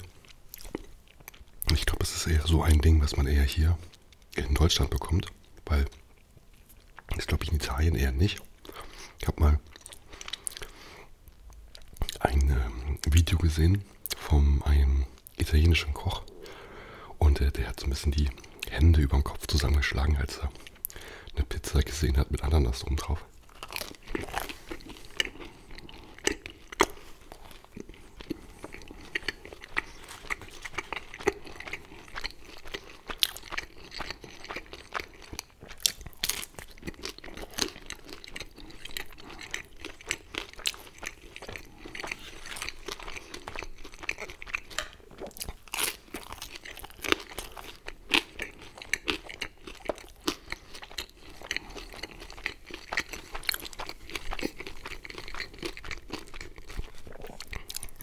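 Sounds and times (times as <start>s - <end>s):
chewing and crunching pizza: 0.0s - 16.6s, 17.3s - 58.0s.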